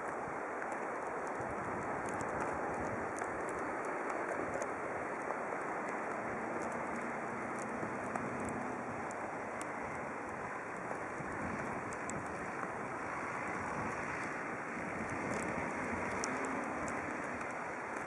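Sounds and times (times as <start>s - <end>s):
distant road traffic hiss: 0.0s - 18.0s
faint scattered ticks: 0.0s - 18.0s.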